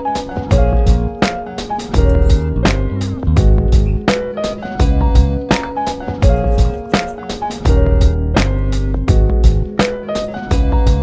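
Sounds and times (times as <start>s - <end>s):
music with plucked strings and bass: 0.0s - 11.0s.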